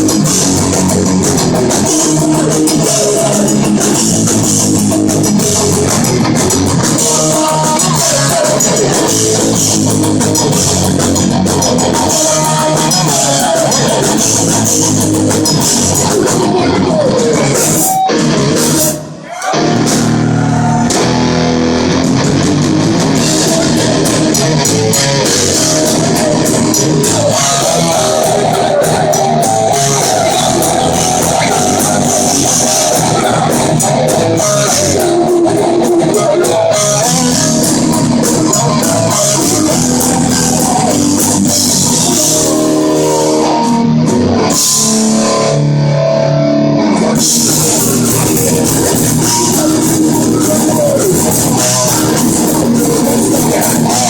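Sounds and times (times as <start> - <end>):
drum kit: 0.0 - 46.0, 46.8 - 54.0
bass guitar: 0.0 - 54.0
distorted electric guitars: 0.0 - 54.0.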